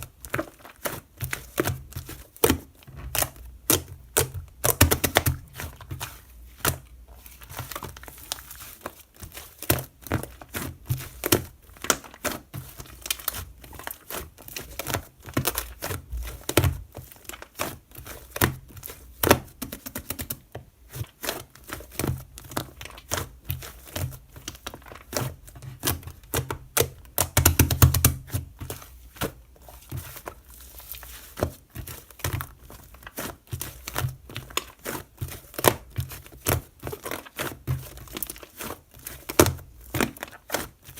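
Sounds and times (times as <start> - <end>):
crinkling from hand handling: 0.0 - 40.9.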